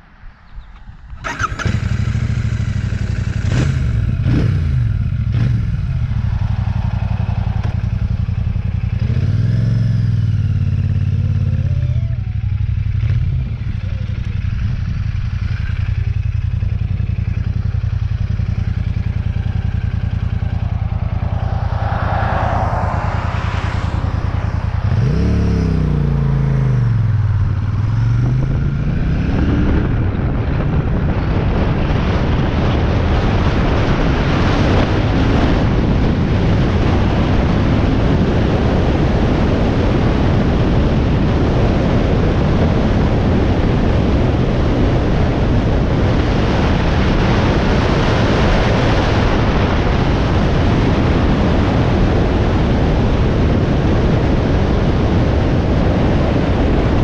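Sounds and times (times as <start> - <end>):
motorcycle engine starting and revving: 0.6 - 22.0, 23.4 - 57.0.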